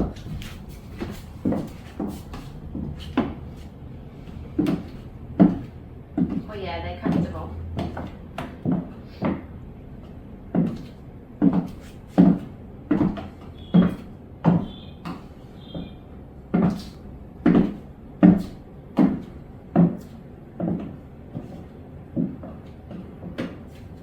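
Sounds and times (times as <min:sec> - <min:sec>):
high heels on hard floor: 0:00.0 - 0:24.0.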